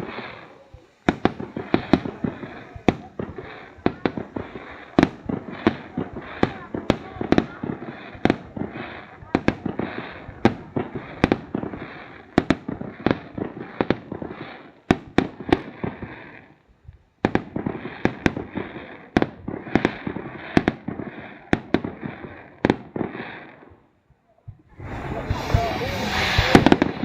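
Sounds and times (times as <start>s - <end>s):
fireworks bangs: 0.0s - 27.0s
fireworks crackle: 0.0s - 27.0s.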